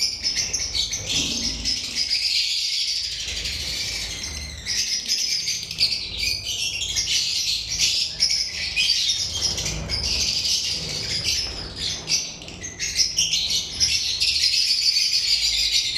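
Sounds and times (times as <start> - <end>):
lovebirds chattering: 0.0 - 15.9.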